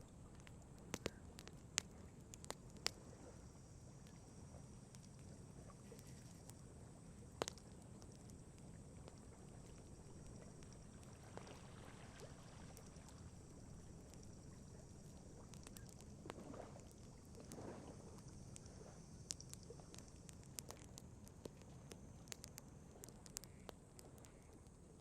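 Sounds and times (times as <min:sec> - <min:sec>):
campfire crackling: 0:00.0 - 0:25.0
low steady background noise: 0:00.0 - 0:25.0.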